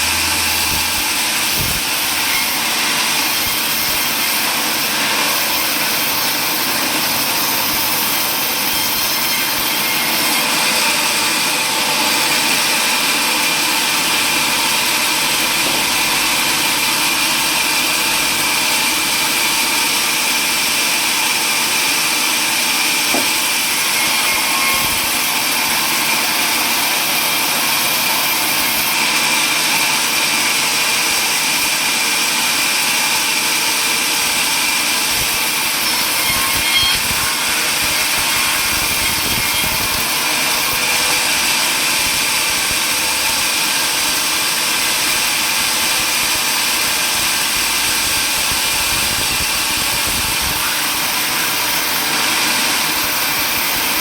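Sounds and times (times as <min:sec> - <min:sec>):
table saw sawing wood: 0:00.0 - 0:54.0.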